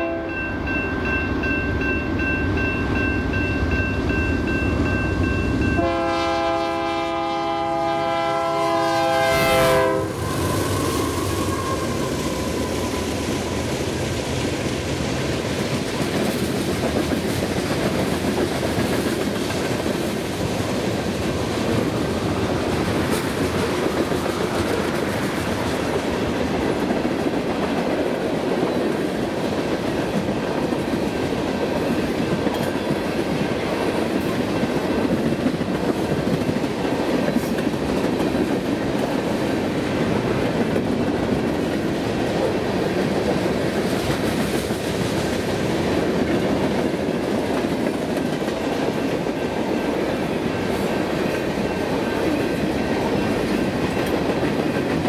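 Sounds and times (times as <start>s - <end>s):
train wheels rolling on rail: 0.3s - 55.0s.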